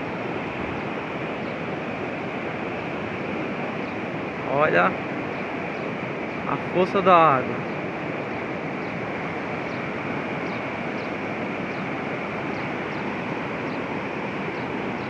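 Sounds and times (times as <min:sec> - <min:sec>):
flooded river rushing: 0:00.0 - 0:15.0.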